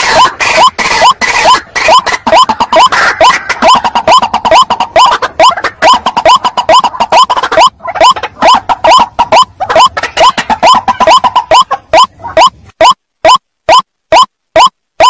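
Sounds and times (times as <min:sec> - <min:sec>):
waterhen calling: 0:00.0 - 0:14.7.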